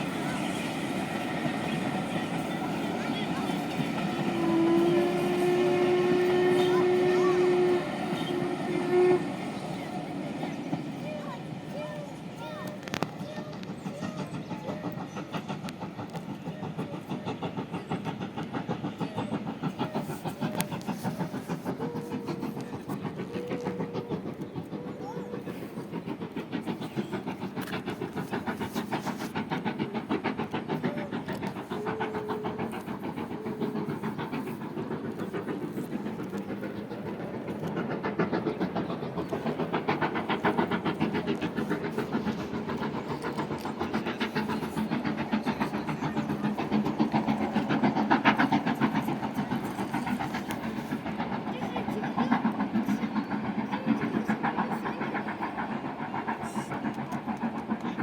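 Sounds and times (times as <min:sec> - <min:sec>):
train clattering on rails: 0:00.0 - 0:58.0.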